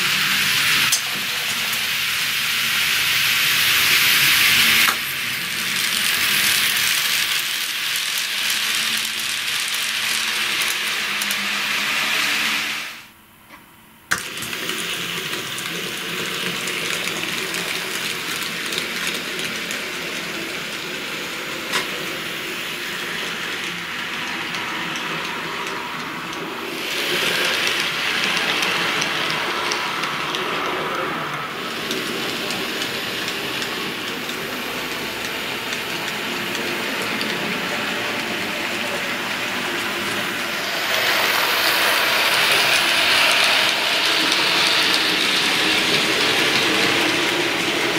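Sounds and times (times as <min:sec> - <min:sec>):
model train motor whirring: 0:00.0 - 0:13.1, 0:14.1 - 0:47.9.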